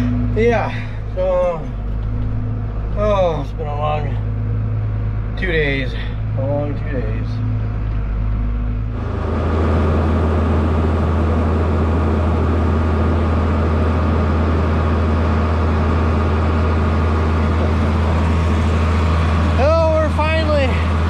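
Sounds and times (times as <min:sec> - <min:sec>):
tractor engine humming: 0:00.0 - 0:21.0.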